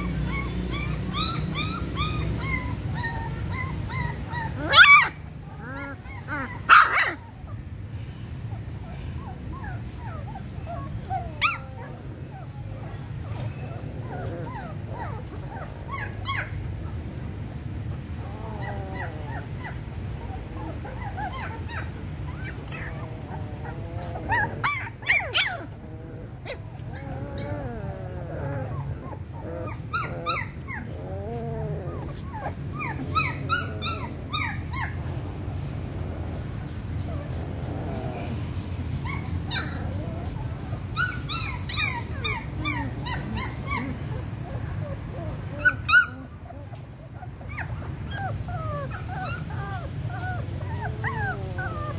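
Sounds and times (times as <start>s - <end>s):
puppies whimpering and squeaking: 0.0s - 51.9s.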